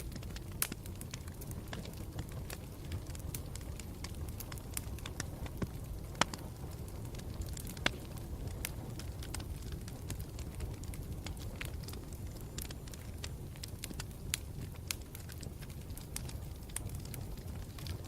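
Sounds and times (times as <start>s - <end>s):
campfire crackling: 0.0s - 18.0s
campfire rumbling: 0.0s - 18.0s.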